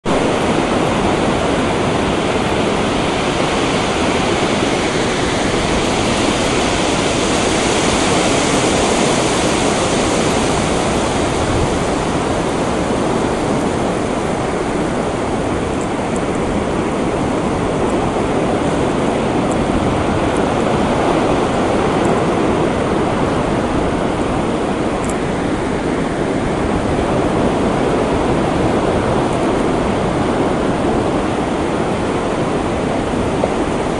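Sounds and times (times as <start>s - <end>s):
surf breaking on a beach: 0.0s - 33.9s.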